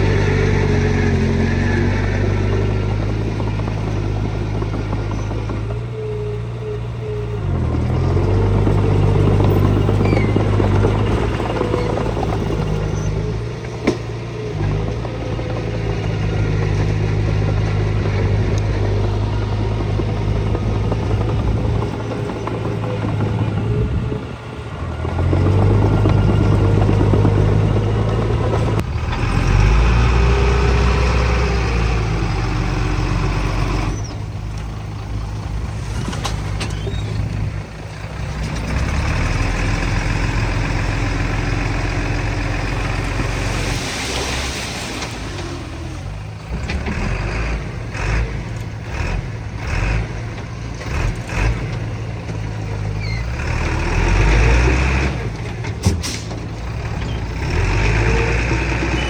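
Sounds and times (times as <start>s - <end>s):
heavy machinery diesel engines: 0.0s - 59.0s.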